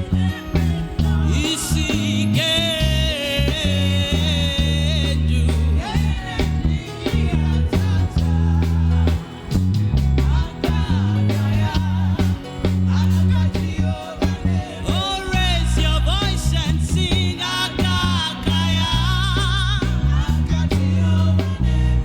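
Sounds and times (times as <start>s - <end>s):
gospel band playing: 0.0s - 22.0s
people singing: 0.0s - 22.0s.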